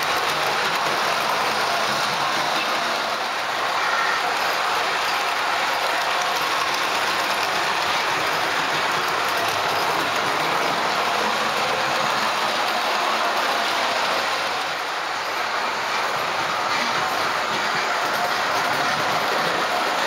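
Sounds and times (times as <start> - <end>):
model train running on metal rails: 0.0 - 20.0.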